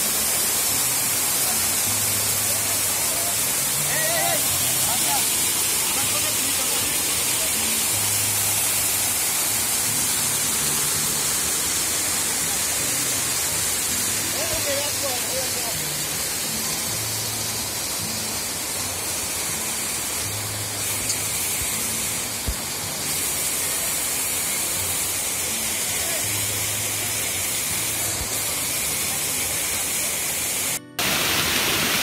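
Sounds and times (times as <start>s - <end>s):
waterfall rushing over rocks: 0.0s - 32.0s.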